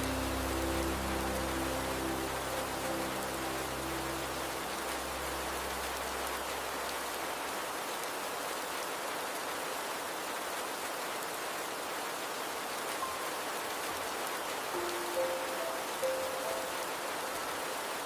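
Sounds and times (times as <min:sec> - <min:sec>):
flowing river water: 0:00.0 - 0:18.0
steady rain falling: 0:00.0 - 0:18.0.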